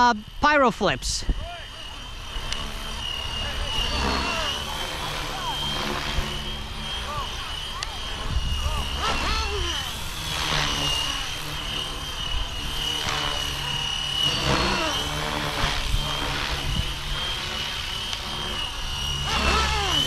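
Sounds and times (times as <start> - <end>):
rc helicopter whine: 0.0 - 20.0
rotor blades swooshing: 0.0 - 20.0.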